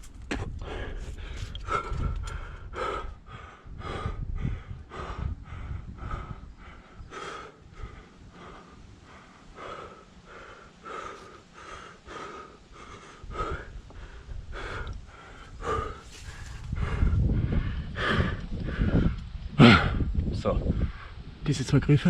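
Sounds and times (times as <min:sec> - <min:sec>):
person breathing hard: 0:00.3 - 0:20.1.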